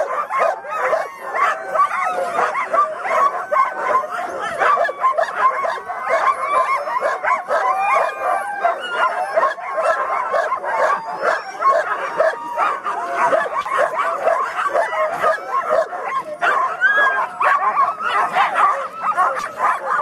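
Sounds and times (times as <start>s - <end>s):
dogs barking yipping and howling: 0.0s - 20.0s.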